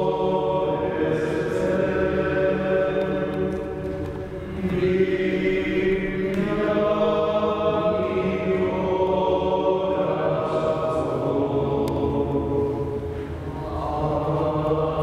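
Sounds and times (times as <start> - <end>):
group chanting: 0.0 - 3.5, 4.4 - 15.0.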